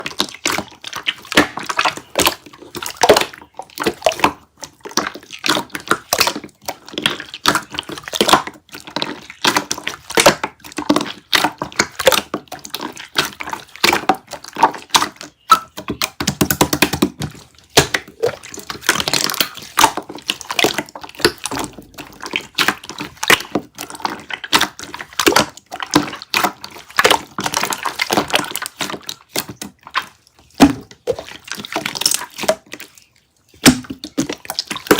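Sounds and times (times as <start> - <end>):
hands squishing slime: 0.0 - 34.9.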